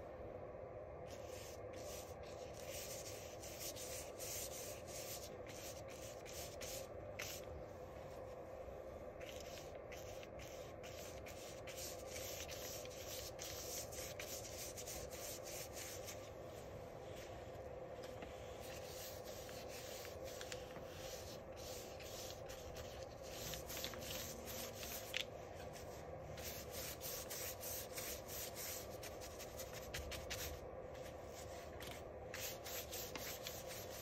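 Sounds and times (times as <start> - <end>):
paintbrush strokes: 1.1 - 8.5, 9.1 - 34.0.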